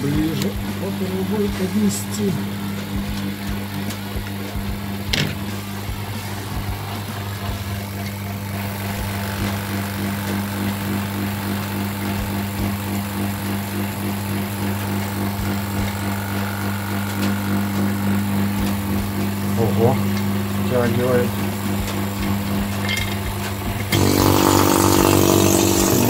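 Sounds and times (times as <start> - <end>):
vacuum pump motor humming: 0.0 - 26.0.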